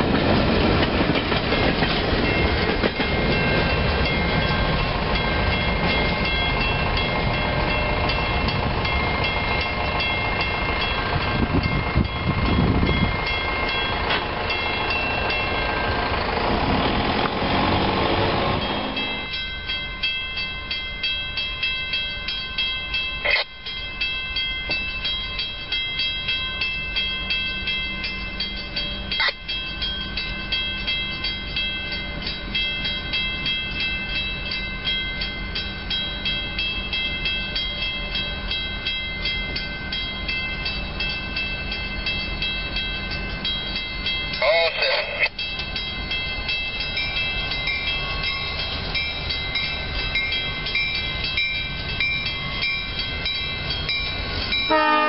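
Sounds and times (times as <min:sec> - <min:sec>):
train boxcars rumbling past: 0:00.0 - 0:23.0, 0:23.8 - 0:55.0.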